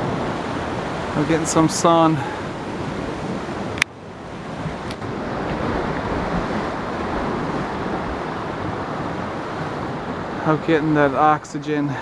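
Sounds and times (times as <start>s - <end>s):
ocean surf rushing: 0.0s - 12.0s
wind: 0.0s - 12.0s.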